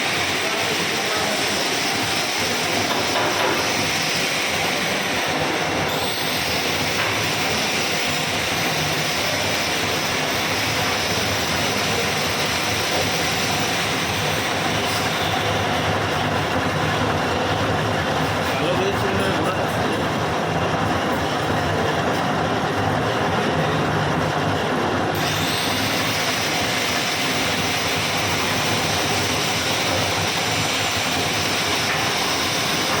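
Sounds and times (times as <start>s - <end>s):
lathe running: 0.0s - 33.0s.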